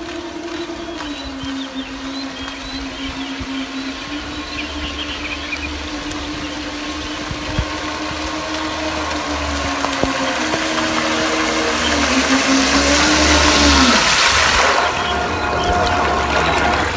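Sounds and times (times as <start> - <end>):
boat motor whining: 0.0 - 16.9
wake splashing: 0.0 - 16.9.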